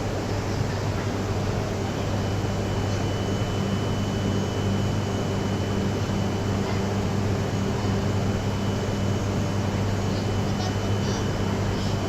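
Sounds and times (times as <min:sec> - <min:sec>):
train low drone: 0:00.0 - 0:10.0.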